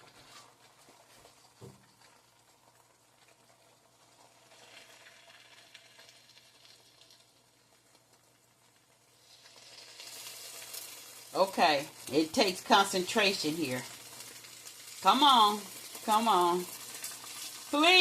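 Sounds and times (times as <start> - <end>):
egg sizzling in a pan: 0.0 - 18.0.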